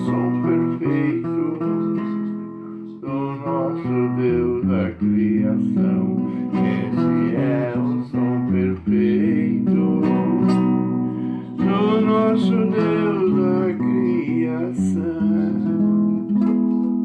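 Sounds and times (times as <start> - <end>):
plucked strings strumming chords: 0.0 - 17.0.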